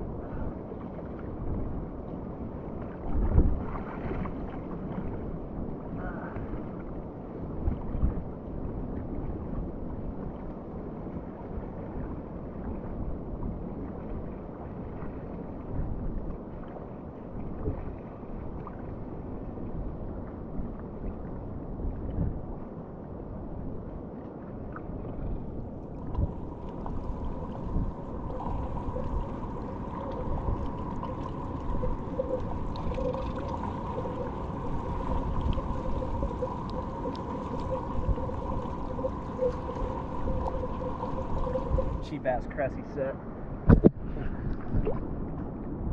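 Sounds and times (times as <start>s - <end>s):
muffled churning water underwater: 0.0s - 45.9s.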